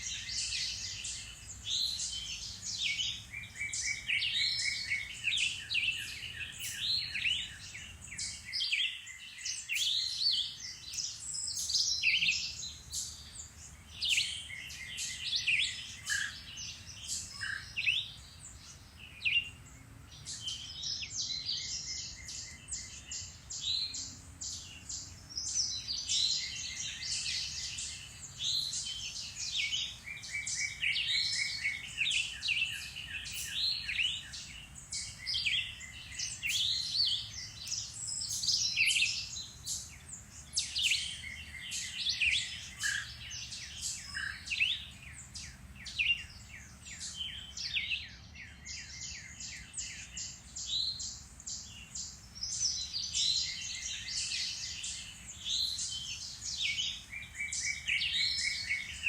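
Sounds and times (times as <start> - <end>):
woodland birds singing: 0.0 - 59.0.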